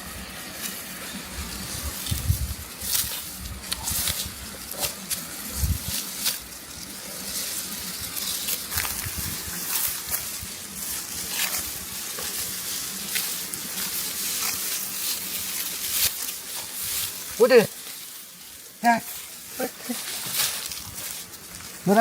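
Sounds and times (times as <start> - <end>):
dry straw rustling and crackling: 0.0 - 22.0
steady hiss: 0.0 - 22.0.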